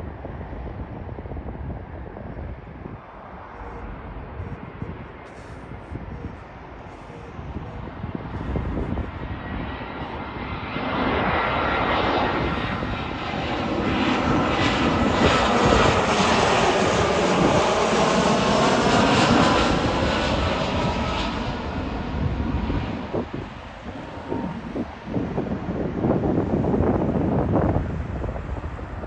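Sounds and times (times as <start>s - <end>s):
jet airliner passing low: 0.0s - 29.0s
wind buffeting microphone: 0.0s - 29.0s.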